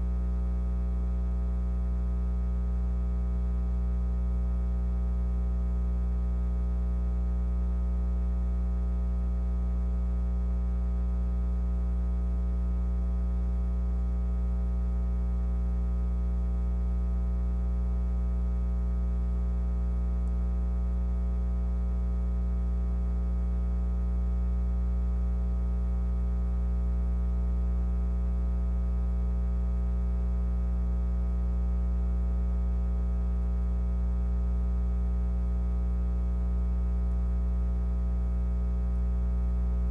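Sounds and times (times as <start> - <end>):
electrical mains hum: 0.0 - 33.5.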